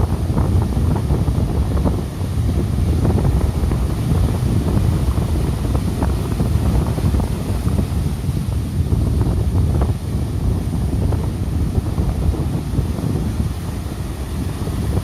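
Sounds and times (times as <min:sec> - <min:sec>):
high surf: 0:00.0 - 0:15.0
wind buffeting microphone: 0:00.0 - 0:15.0.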